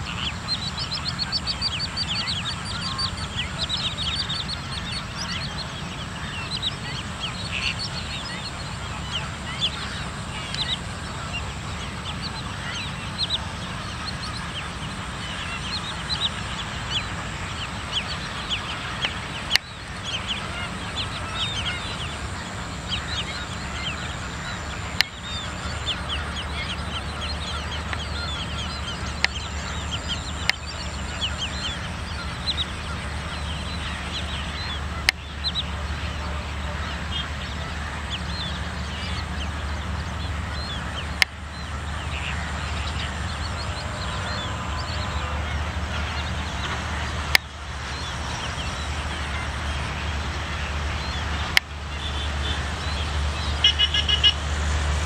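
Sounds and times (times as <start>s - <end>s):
flock of birds calling: 0.0s - 55.0s.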